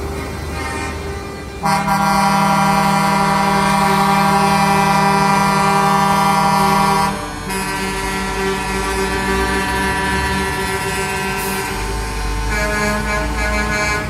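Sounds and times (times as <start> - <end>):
truck air horn blast: 0.0 - 14.0.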